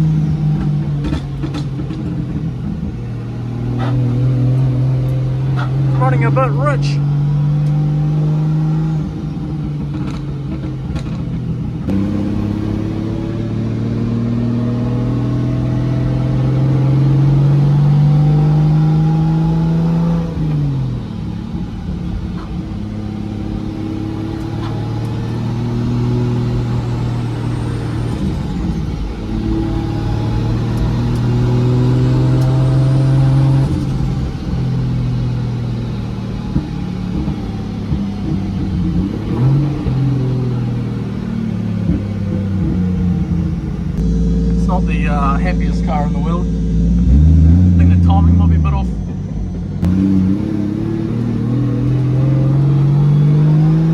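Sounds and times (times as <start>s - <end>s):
car engine accelerating: 0.0s - 53.9s.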